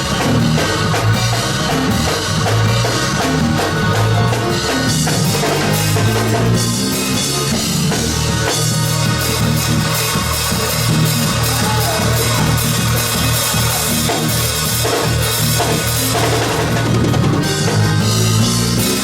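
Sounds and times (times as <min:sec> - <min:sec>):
drum kit beat: 0:00.0 - 0:19.0
gospel music: 0:00.0 - 0:19.0
sustained bass line: 0:00.0 - 0:19.0.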